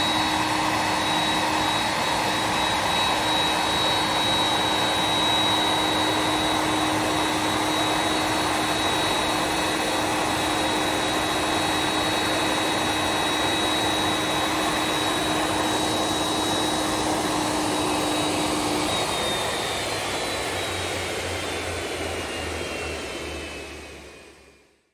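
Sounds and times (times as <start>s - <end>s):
jet engines idling with whine: 0.0s - 24.9s.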